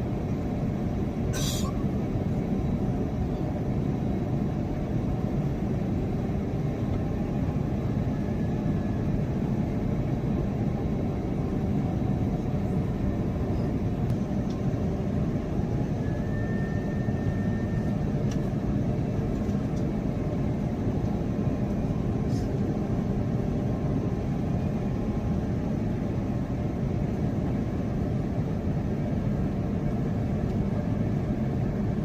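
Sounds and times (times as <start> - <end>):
airliner cabin engine roar: 0.0 - 32.0.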